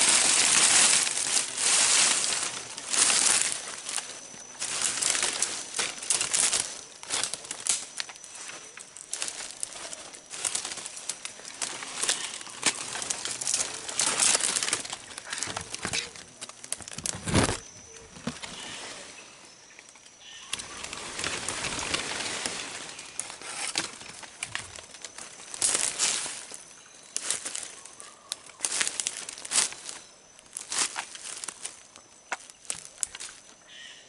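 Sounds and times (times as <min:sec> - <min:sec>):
rustling and crackling: 0:00.0 - 0:33.6.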